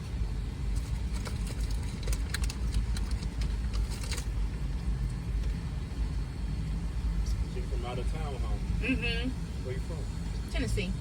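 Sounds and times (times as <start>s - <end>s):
car idling: 0.0s - 11.0s.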